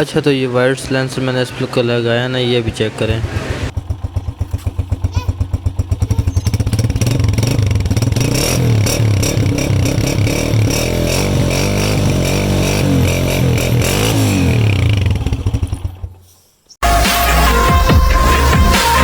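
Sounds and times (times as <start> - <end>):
motorcycle idling and revving: 0.0 - 19.0.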